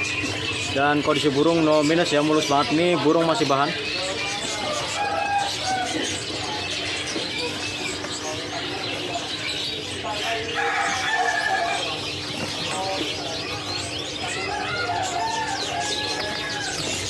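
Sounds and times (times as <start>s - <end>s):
caged birds chirping and whistling: 0.0s - 17.0s.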